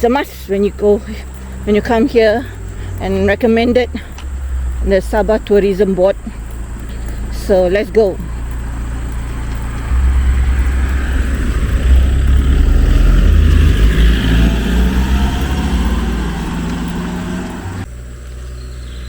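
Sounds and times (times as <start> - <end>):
vehicle passing by: 0.0 - 19.0.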